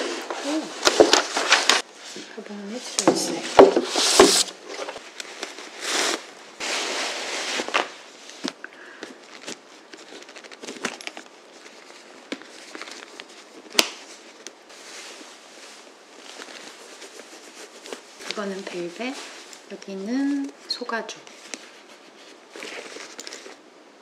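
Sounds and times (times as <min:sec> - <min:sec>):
paper wrapping crinkling: 0:00.1 - 0:01.9, 0:02.6 - 0:20.6, 0:21.3 - 0:23.7.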